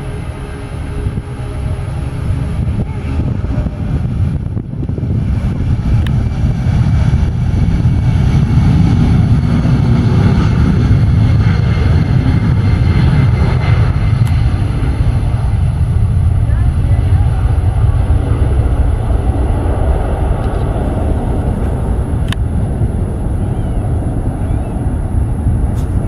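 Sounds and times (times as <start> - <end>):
jet engines at takeoff thrust: 0.0 - 26.0.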